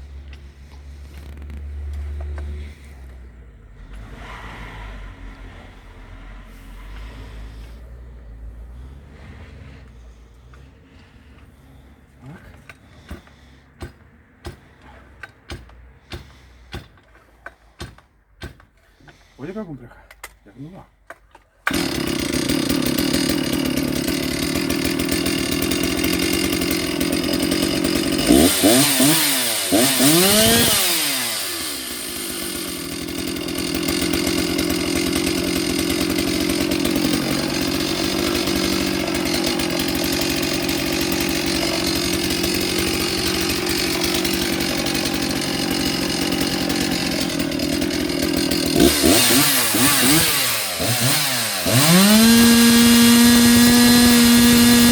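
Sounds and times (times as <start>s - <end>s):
chainsaw idling and revving: 0.0s - 17.1s, 17.8s - 54.9s.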